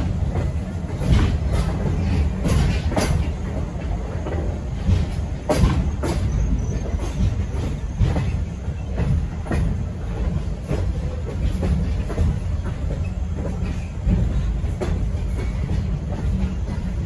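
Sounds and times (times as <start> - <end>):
train car rumble: 0.0 - 17.0
wheels clicking over rail joints: 0.0 - 17.0.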